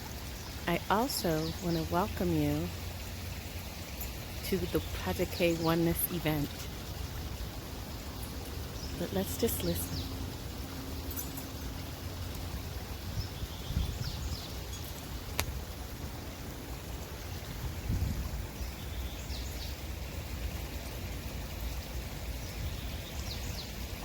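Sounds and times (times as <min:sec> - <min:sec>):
creek water running: 0:00.0 - 0:24.0.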